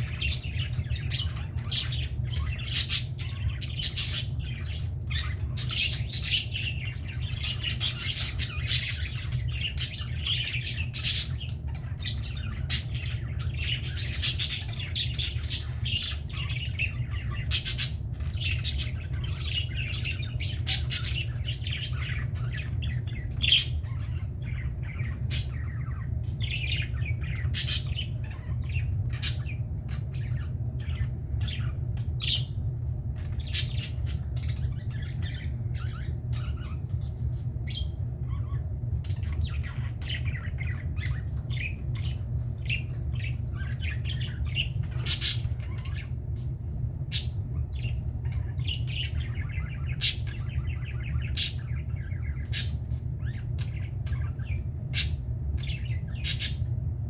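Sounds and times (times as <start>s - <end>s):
budgerigars chattering and squawking: 0.0s - 56.8s
steady low hum: 0.0s - 57.0s.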